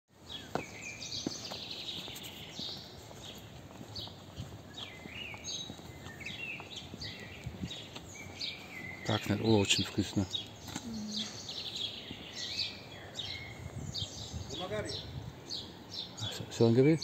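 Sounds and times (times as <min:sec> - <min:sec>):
footsteps on paved path: 0:00.1 - 0:17.0
birds chirping and singing: 0:00.2 - 0:17.0.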